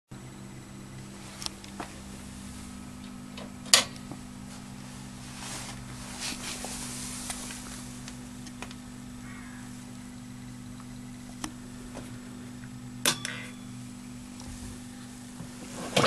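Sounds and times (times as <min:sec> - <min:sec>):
low electrical hum: 0:00.1 - 0:16.0.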